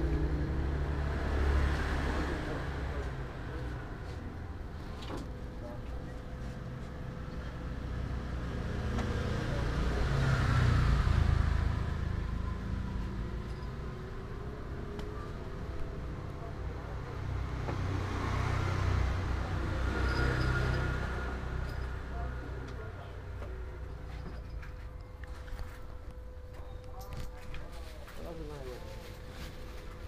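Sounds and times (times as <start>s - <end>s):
vehicles passing by: 0.0s - 27.0s.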